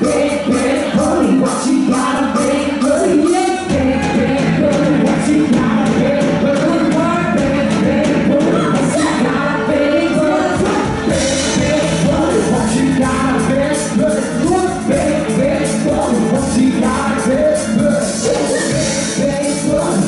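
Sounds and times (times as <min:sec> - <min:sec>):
pop band playing: 0:00.0 - 0:20.0
steady drum beat: 0:00.0 - 0:20.0
women singing: 0:00.0 - 0:20.0.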